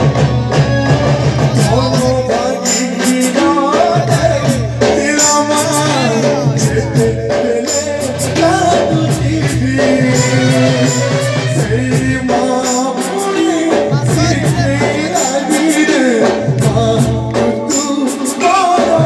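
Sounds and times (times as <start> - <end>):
drums: 0.0 - 19.0
keyboard melody: 0.0 - 19.0
person singing: 0.0 - 19.0.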